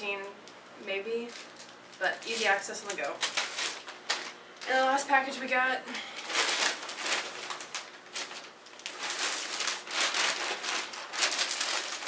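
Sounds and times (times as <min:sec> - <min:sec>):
plastic bag crinkling: 0:01.2 - 0:05.2, 0:06.1 - 0:12.0.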